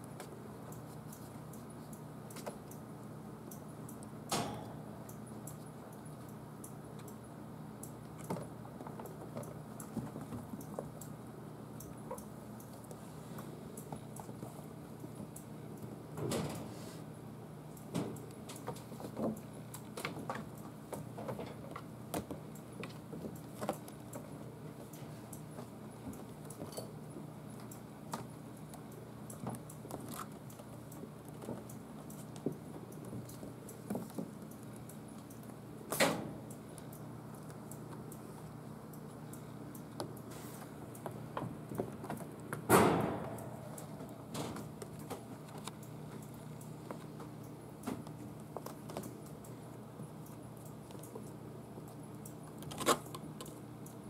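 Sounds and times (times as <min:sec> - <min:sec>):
kittens' paws tapping and scuffling: 0:00.0 - 0:02.8, 0:08.0 - 0:11.2, 0:12.2 - 0:15.9, 0:17.9 - 0:36.0, 0:36.6 - 0:42.7, 0:43.7 - 0:54.0
low room hum: 0:00.0 - 0:54.0.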